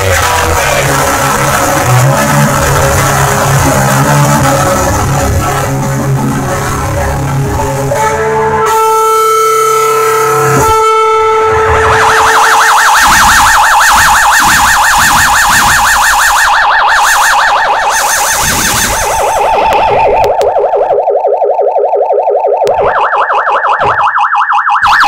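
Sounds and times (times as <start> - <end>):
wobbling siren-like guitar tone: 0.0 - 25.0.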